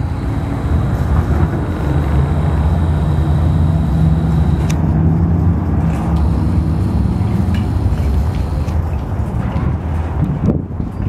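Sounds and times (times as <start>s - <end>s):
vehicle engine rumble: 0.0s - 9.7s.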